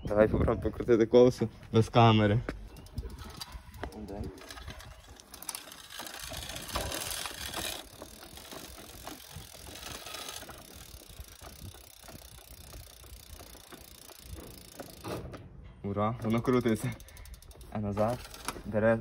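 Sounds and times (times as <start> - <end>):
bicycle wheel whirring: 1.9 - 15.4, 16.2 - 19.0
bicycle chain ticking and rattling: 2.3 - 15.4, 16.0 - 19.0.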